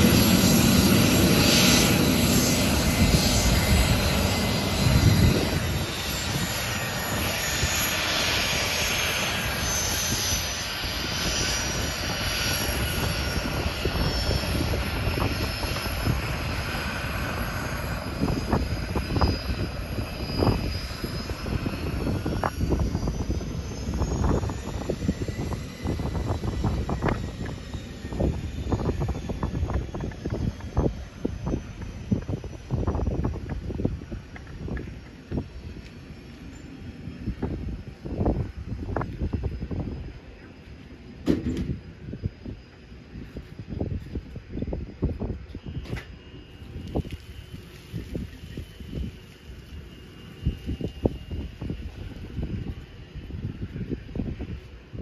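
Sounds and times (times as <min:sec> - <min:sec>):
jet engines whining: 0:00.0 - 0:55.0
wind buffeting microphone: 0:00.0 - 0:55.0.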